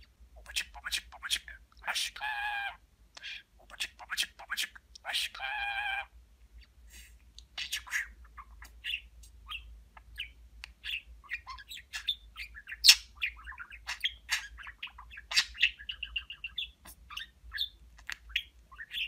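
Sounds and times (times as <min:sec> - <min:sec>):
budgerigar warbling: 0:01.8 - 0:06.1, 0:07.6 - 0:19.0.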